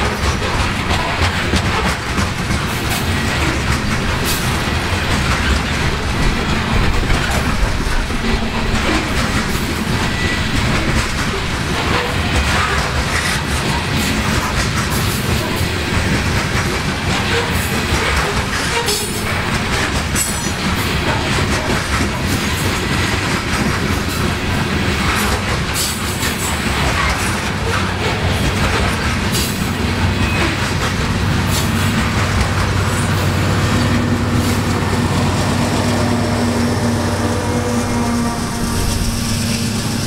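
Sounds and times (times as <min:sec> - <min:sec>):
low diesel locomotive hum: 0:00.0 - 0:40.0
steel wheels clicking on rails: 0:00.0 - 0:40.0.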